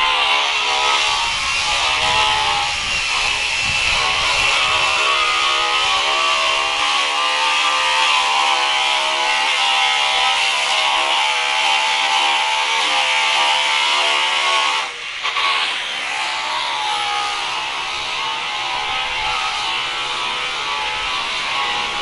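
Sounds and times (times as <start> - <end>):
power tool whining on wood: 0.0 - 22.0.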